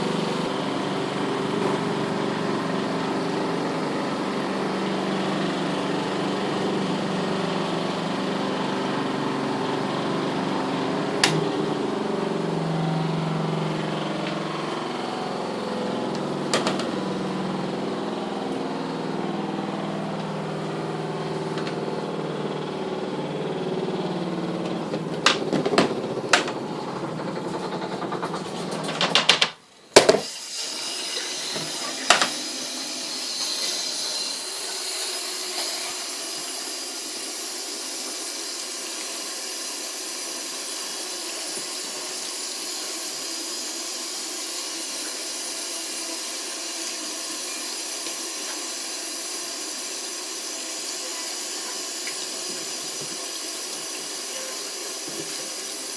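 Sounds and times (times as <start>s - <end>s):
washing machine motor humming: 0.0s - 55.9s
water running into tub: 0.0s - 55.9s.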